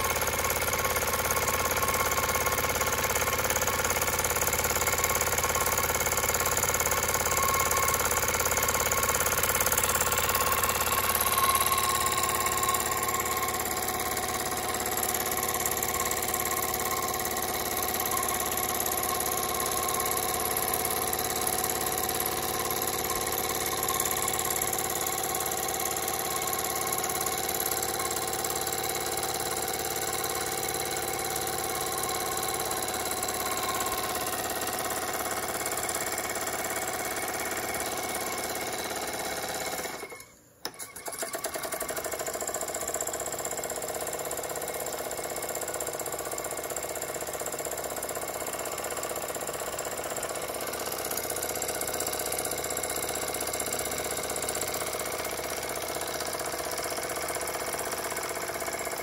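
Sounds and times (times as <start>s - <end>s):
toy steam engine running: 0.0s - 59.0s.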